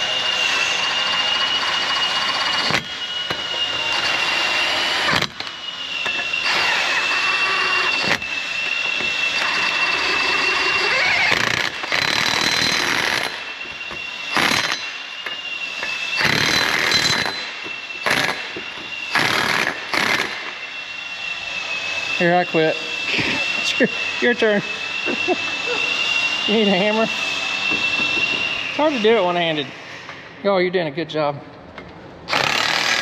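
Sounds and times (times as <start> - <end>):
impact wrench whining: 0.0 - 30.4, 32.2 - 33.0.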